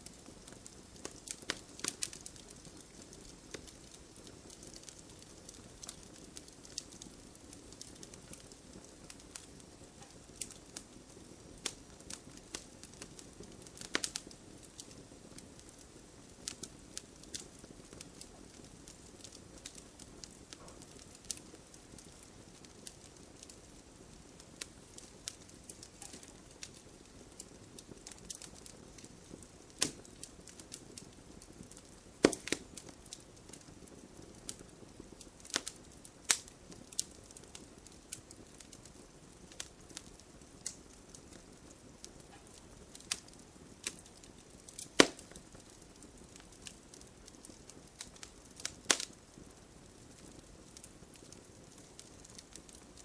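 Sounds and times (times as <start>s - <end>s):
campfire crackling and popping: 0.0s - 53.0s
soft low fire hiss: 0.0s - 53.0s.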